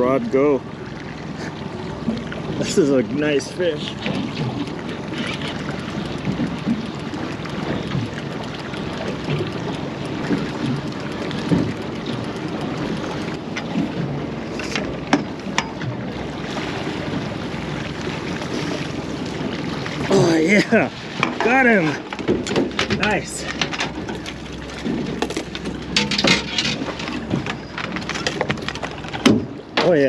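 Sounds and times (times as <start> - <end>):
outboard motor running: 0.0 - 30.0
water washing along hull: 0.0 - 30.0.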